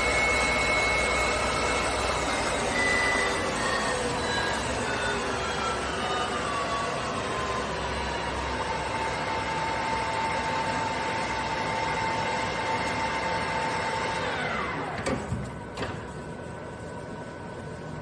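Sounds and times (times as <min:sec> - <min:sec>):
metal lathe whining: 0:00.0 - 0:15.3.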